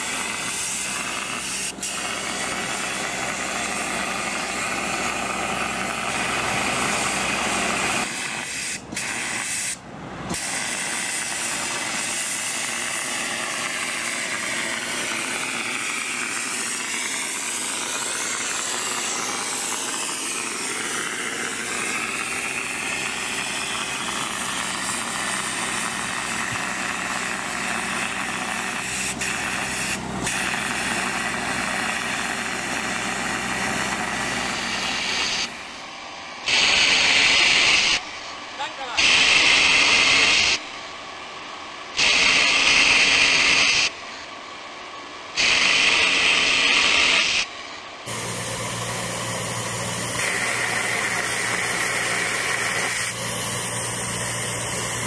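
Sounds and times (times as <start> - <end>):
spray gun hissing: 0.0 - 35.8, 36.4 - 40.6, 42.0 - 44.0, 45.4 - 55.0
road-marking machine running: 0.0 - 55.0.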